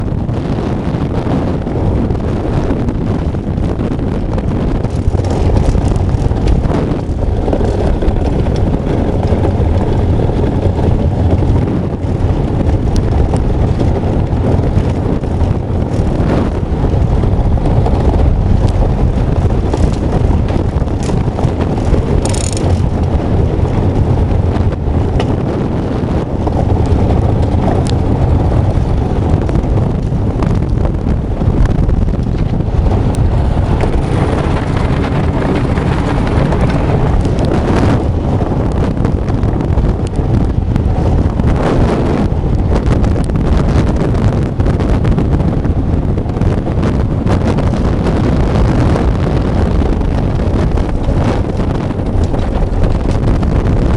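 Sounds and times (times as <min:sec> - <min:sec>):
wind rumbling on microphone: 0:00.0 - 0:53.9.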